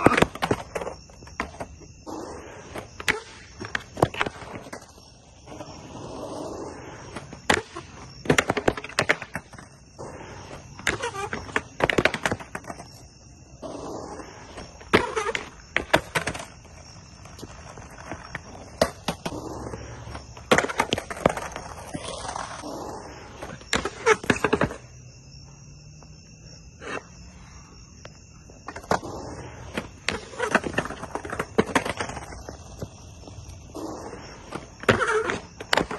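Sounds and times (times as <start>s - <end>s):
skateboard wheels rolling on concrete: 0.0s - 35.9s.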